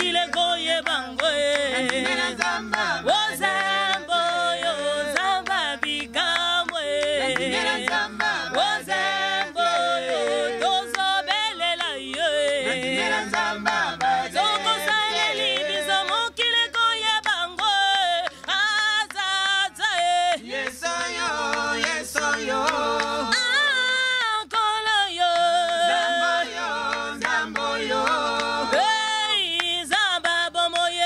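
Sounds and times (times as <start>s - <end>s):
group singing in harmony: 0.0s - 31.0s
hand claps: 0.0s - 31.0s.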